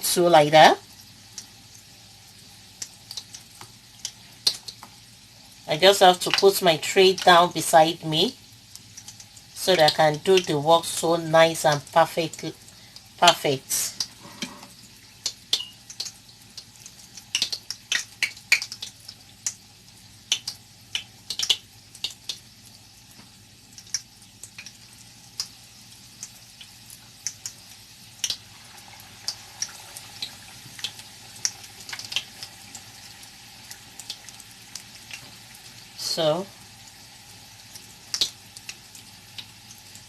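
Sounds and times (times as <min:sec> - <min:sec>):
faint frying sizzle: 0:00.0 - 0:40.0.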